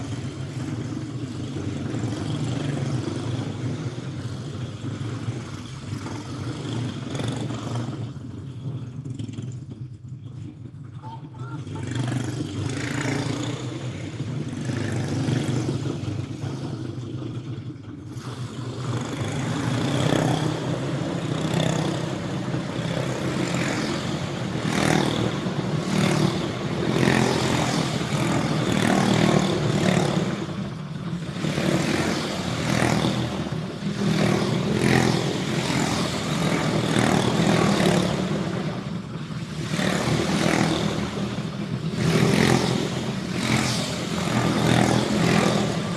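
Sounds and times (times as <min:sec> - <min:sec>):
kart engines revving: 0:00.0 - 0:45.9.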